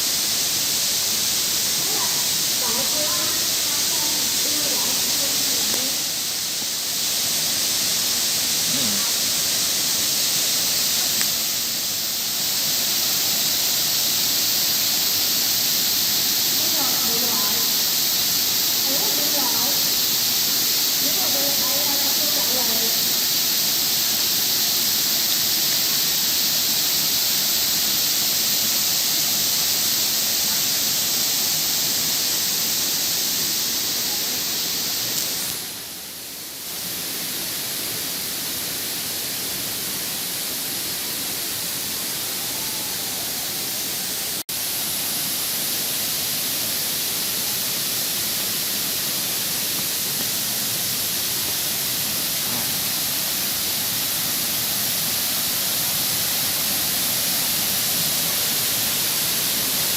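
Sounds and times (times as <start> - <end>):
waterfall rushing hiss: 0.0 - 59.9.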